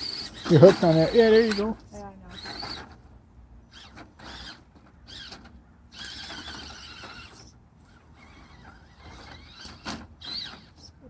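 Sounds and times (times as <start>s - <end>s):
electric motor and gears whining: 0.0s - 3.1s, 3.7s - 11.0s.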